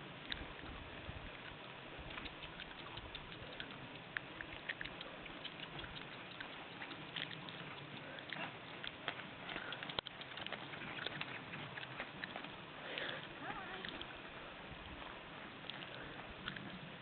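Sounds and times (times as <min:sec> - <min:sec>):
horse hooves trotting on grass: 0:00.0 - 0:17.0.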